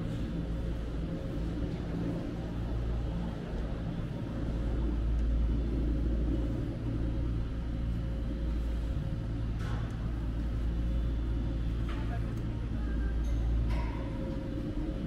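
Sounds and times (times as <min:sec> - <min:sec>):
ropeway machinery rumbling: 0:00.0 - 0:15.0.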